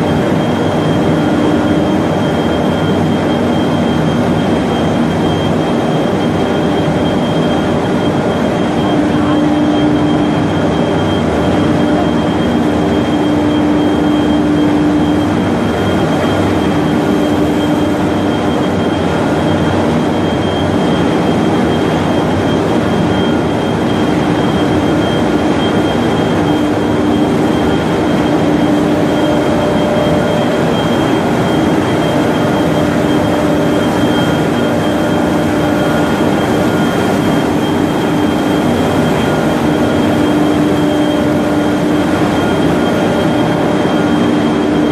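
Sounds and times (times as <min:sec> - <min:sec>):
constant high whine: 0:00.0 - 0:44.9
low hum: 0:06.6 - 0:44.9.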